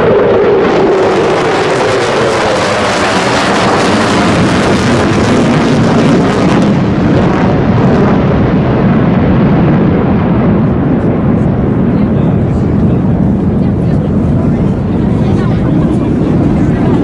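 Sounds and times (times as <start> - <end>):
jet aircraft flying past: 0.0 - 17.0.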